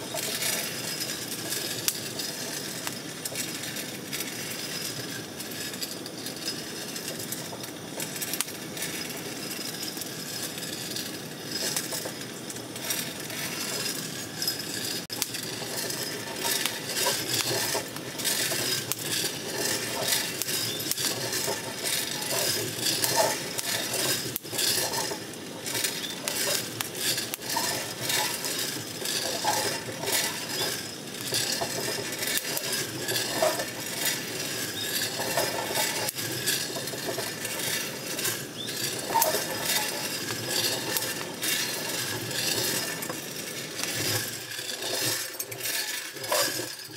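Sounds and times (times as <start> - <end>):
coffee beans rattling in a drum: 0.0 - 46.9.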